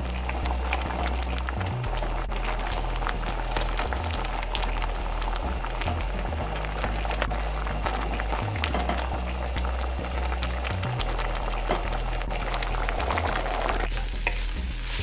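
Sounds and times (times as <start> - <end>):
background music with bass: 0.0 - 15.0
pot of lentils boiling: 0.0 - 15.0
wooden stick churning liquid: 0.0 - 15.0.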